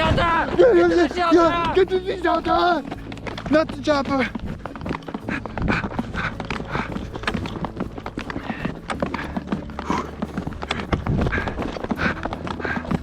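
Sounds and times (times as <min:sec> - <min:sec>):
snowshoes crunching through snow: 0:00.0 - 0:13.0.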